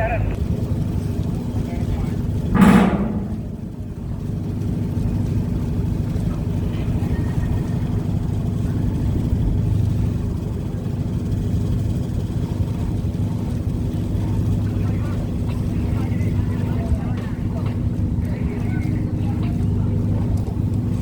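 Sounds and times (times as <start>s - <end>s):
heavy vehicle engines rumbling: 0.0s - 21.0s.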